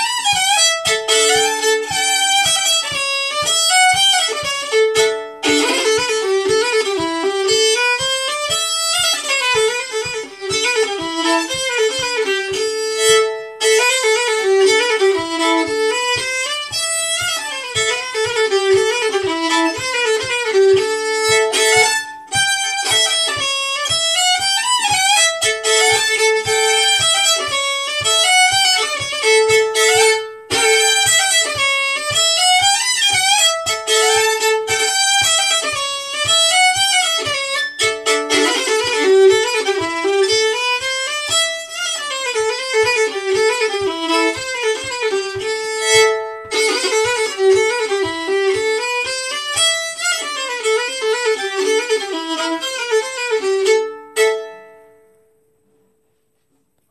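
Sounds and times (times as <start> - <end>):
solo fiddle playing: 0.0 - 55.3.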